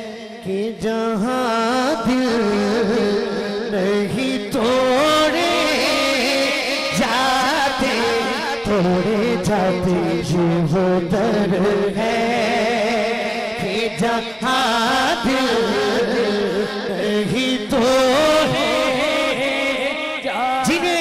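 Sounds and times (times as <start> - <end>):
man singing into microphone: 0.0 - 21.0.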